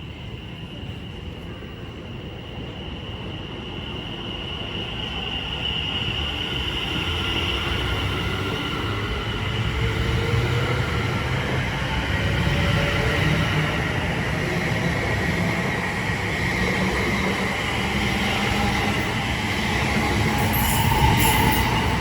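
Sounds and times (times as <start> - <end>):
electric train high whine: 0.0 - 22.0
train wheels rumbling on track: 0.0 - 22.0.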